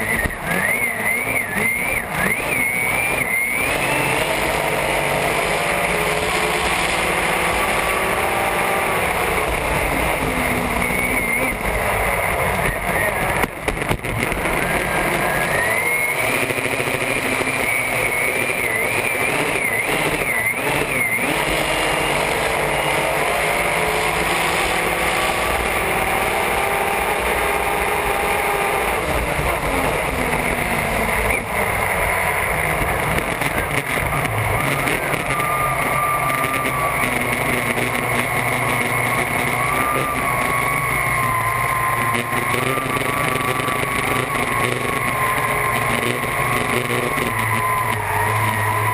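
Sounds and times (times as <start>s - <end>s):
racing boat engine whining: 0.0s - 48.9s.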